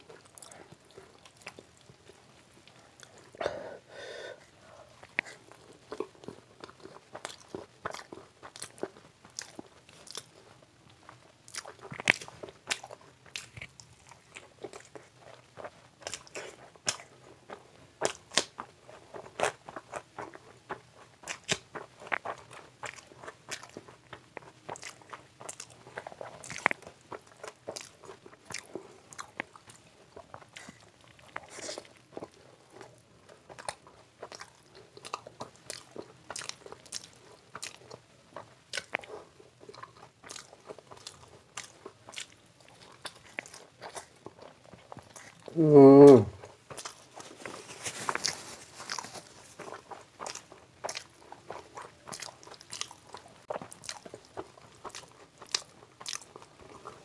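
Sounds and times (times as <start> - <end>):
close chewing and mouth clicks: 0.0 - 3.6, 4.4 - 57.0.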